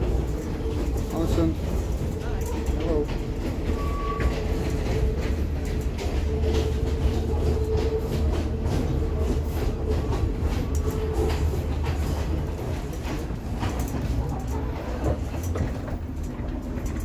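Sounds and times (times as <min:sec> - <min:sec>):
train carriage rumble: 0:00.0 - 0:17.0.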